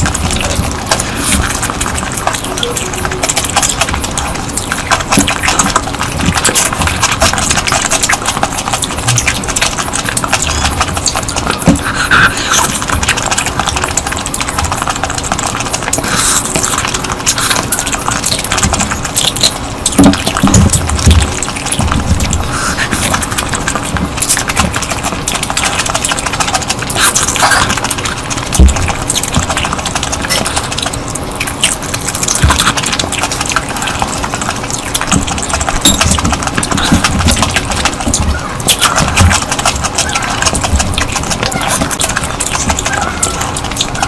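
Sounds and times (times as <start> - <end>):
wet chewing and lip smacking: 0.0 - 44.0.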